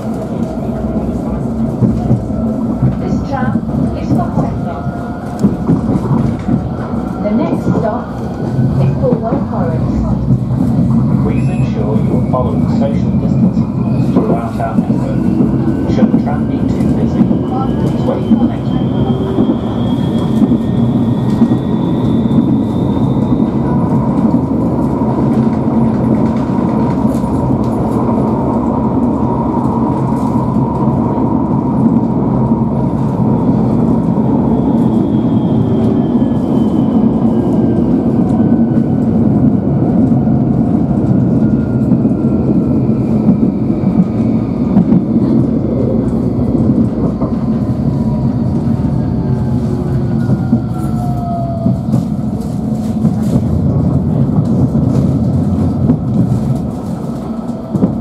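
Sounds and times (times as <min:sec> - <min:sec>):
tram wheel and rail rumble: 0:00.0 - 0:58.0.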